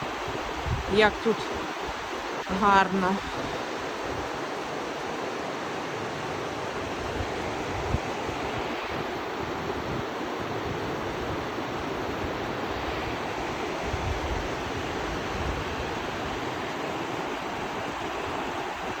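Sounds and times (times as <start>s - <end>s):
wind buffeting microphone: 0.0s - 4.6s, 6.6s - 19.0s
river rushing over rapids: 0.0s - 19.0s.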